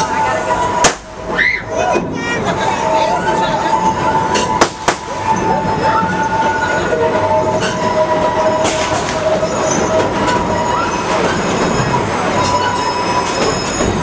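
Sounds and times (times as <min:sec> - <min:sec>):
steel wheels squealing: 0:00.0 - 0:14.0
train cars rumbling on track: 0:00.0 - 0:14.0.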